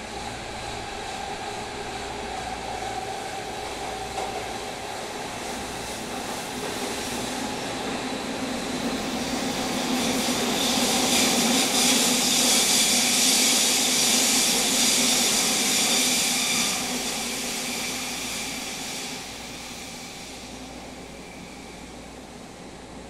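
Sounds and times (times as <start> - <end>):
train rushing hiss: 0.0 - 23.0.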